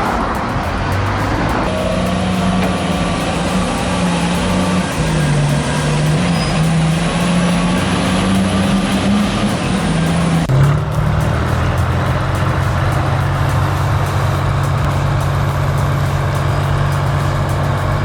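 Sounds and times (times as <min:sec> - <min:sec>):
heavy diesel engine under load: 0:00.0 - 0:18.0.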